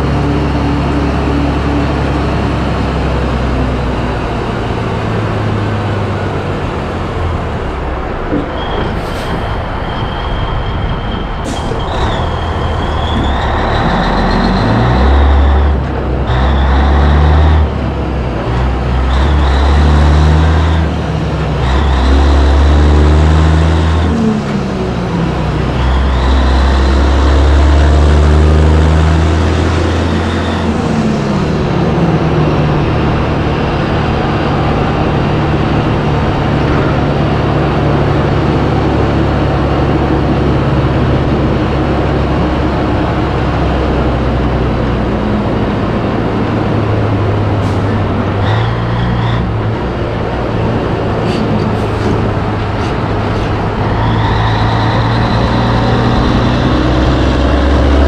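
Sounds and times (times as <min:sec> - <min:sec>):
truck diesel engine pulling: 0:00.0 - 0:58.0.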